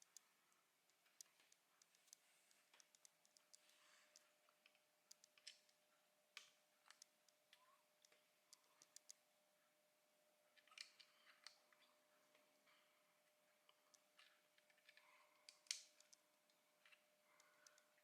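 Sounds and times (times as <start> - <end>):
small hard parts clicking: 0.0 - 5.8, 6.4 - 9.2, 10.6 - 12.9, 13.7 - 18.0
faint steady hum: 0.0 - 18.0.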